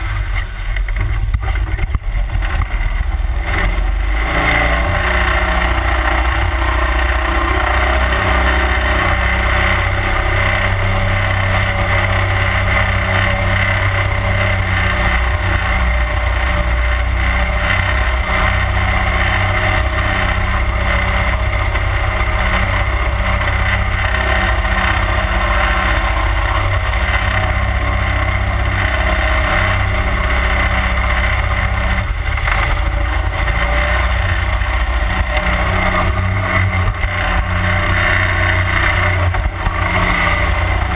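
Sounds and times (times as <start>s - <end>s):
boat motor running: 0.0s - 40.9s.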